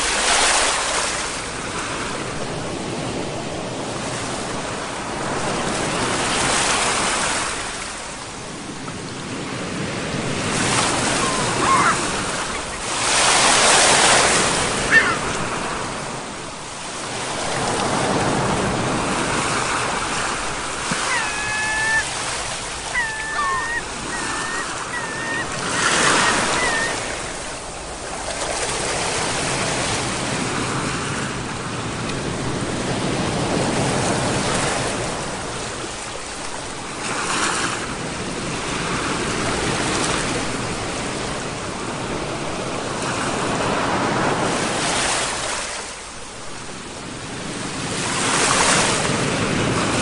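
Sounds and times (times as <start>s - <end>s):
sea waves breaking: 0.0s - 50.0s.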